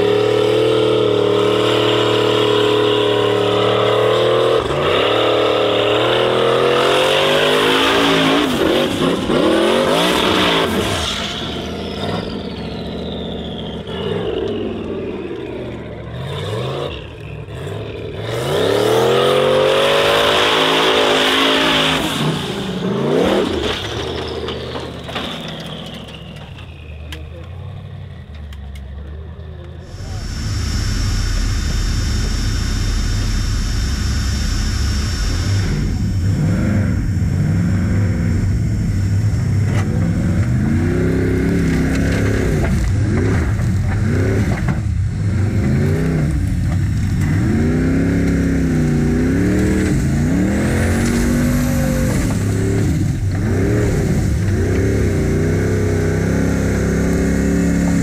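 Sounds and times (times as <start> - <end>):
race car engine revving: 0.0 - 24.5, 27.0 - 58.0.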